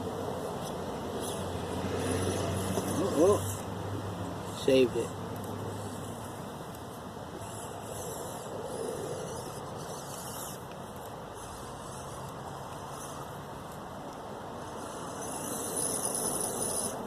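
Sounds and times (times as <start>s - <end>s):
electric motor and gears whirring: 0.0s - 17.0s.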